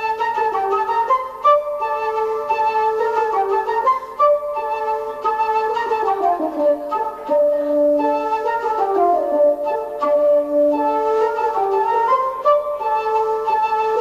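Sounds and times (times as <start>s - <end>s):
flute melody: 0.0s - 14.0s.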